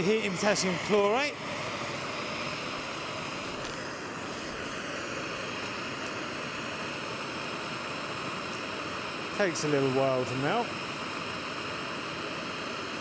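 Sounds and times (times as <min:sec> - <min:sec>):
blowtorch flame hissing: 0:00.0 - 0:13.0.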